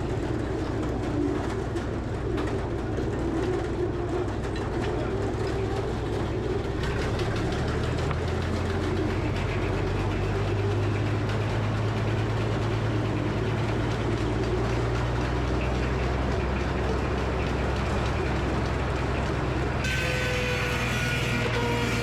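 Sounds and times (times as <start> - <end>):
sawmill running: 0.0 - 22.0.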